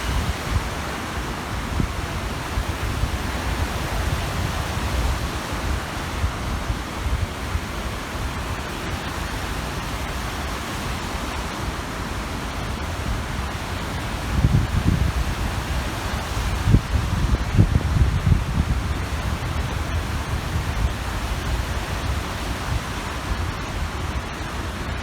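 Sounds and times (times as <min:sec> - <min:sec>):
small waves washing on shore: 0:00.0 - 0:25.0
wind rumbling on microphone: 0:00.0 - 0:25.0.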